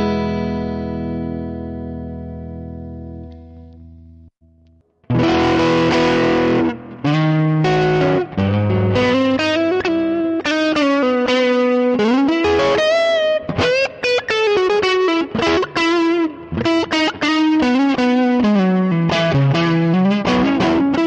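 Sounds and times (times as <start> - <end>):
electric guitar blues lead: 0.0 - 3.9, 5.0 - 21.0.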